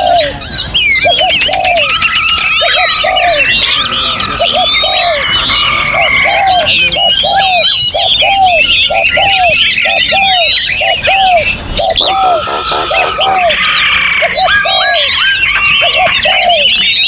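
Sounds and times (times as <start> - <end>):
songbirds singing and chirping: 0.0 - 17.0.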